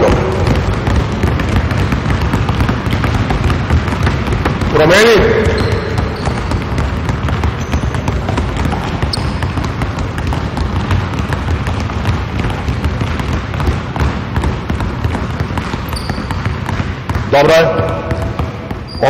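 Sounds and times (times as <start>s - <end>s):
basketballs bouncing on hardwood floor: 0.0s - 19.0s.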